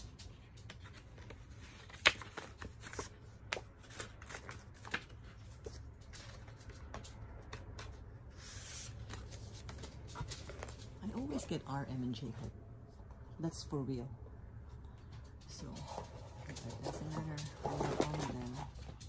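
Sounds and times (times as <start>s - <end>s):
cardboard and paper handling: 0.0s - 12.5s, 15.9s - 19.0s.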